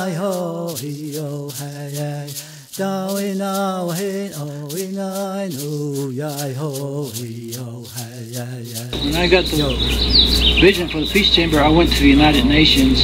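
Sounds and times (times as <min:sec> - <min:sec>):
man chanting in a low voice: 0:00.0 - 0:09.9, 0:10.5 - 0:13.0.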